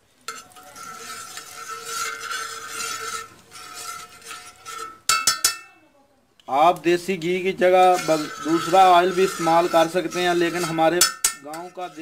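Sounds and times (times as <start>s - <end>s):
ghee sizzling on a hot griddle: 0.0s - 5.8s, 6.4s - 12.0s
spoon clinking on metal griddle: 0.3s - 5.8s, 7.7s - 12.0s.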